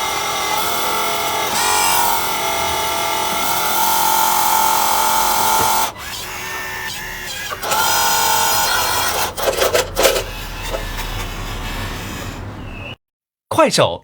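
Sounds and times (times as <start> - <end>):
heavy machinery whining: 0.0 - 12.7.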